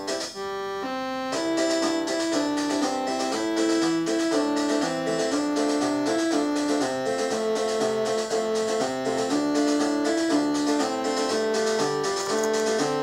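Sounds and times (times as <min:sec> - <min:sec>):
harpsichord-like keyboard melody: 0:00.0 - 0:13.0.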